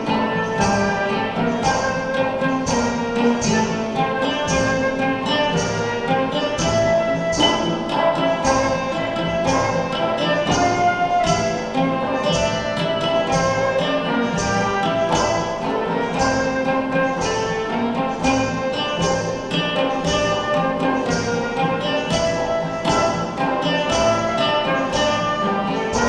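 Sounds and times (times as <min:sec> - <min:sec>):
flute melody: 0:00.0 - 0:26.0
frame drums beating: 0:00.0 - 0:26.0
plucked lute strings: 0:00.0 - 0:26.0.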